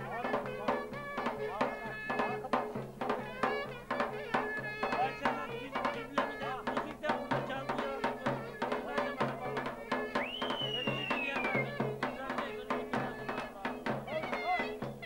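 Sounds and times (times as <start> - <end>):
drum beating a steady rhythm: 0.0 - 15.0
wind instrument melody: 0.0 - 15.0.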